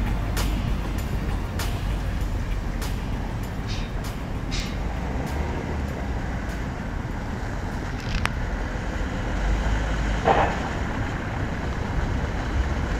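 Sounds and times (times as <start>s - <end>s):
distant road traffic rumble: 0.0s - 12.9s.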